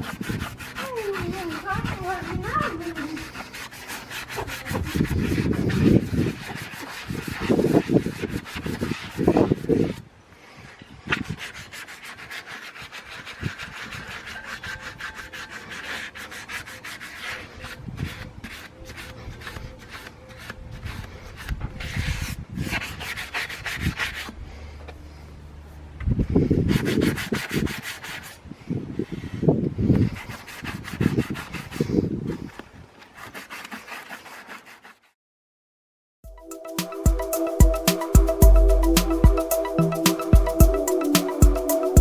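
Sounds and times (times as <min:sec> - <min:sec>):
sandpaper rubbing on metal wheel: 0:00.0 - 0:28.4, 0:29.1 - 0:35.1, 0:36.4 - 0:42.0.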